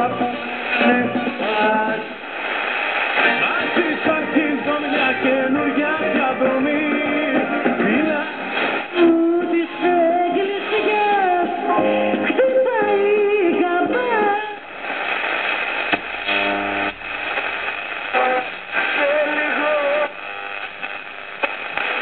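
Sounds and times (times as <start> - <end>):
radio hiss: 0.0 - 22.0
song on tube radio: 0.0 - 22.0.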